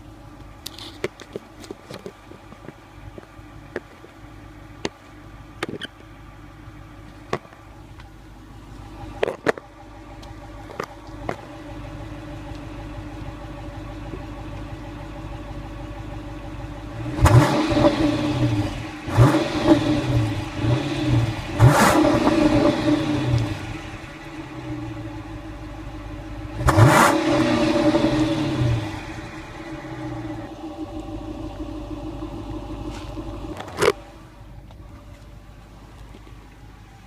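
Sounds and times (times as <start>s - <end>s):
car exhaust idling and revving: 0.0s - 37.0s.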